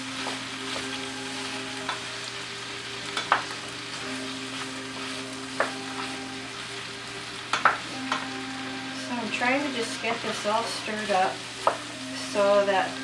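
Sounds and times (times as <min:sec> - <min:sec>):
vegetables sizzling in pan: 0:00.0 - 0:13.0.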